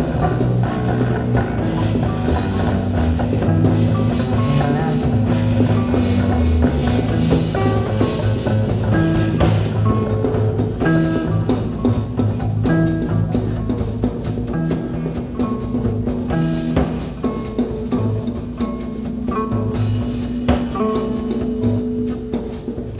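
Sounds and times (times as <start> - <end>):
bass guitar: 0.0 - 22.9
drum kit: 0.0 - 22.9
electric guitar: 0.0 - 22.9.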